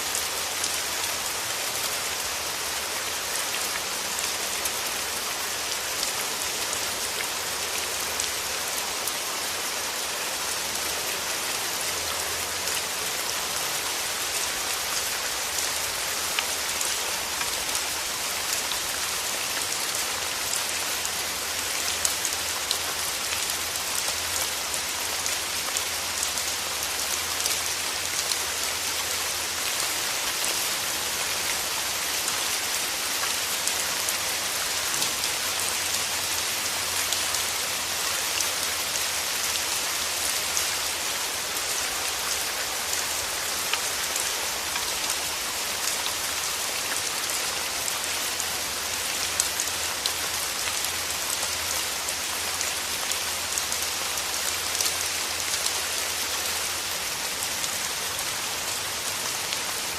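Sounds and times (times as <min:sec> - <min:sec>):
rain falling through trees: 0:00.0 - 0:59.9.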